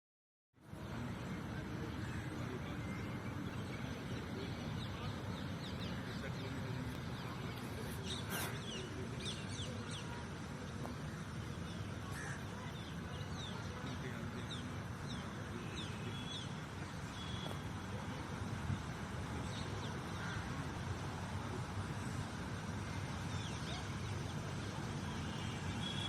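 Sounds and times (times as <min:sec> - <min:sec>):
low background noise: 0:00.6 - 0:26.0
birds chirping: 0:00.8 - 0:26.0.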